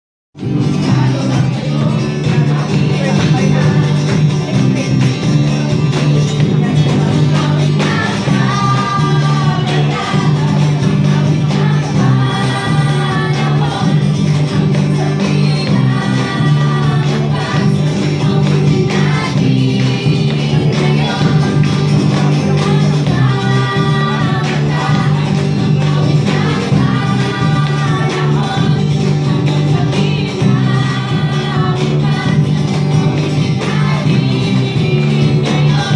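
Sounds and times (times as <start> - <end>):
steady bass line: 0.4 - 35.9
choir singing: 6.4 - 35.9.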